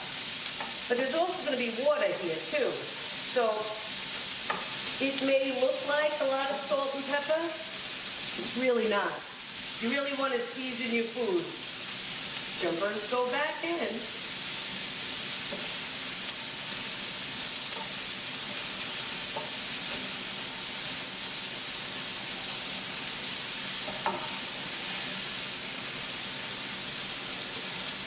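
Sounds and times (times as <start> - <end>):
onions sizzling in a pan: 0.0 - 28.0.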